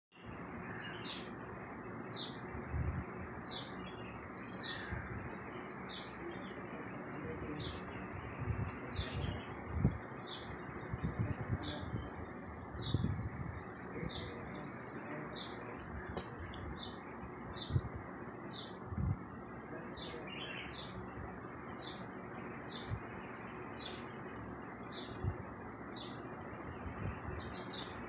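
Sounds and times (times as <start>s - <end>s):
bird chirping: 0.1s - 28.0s.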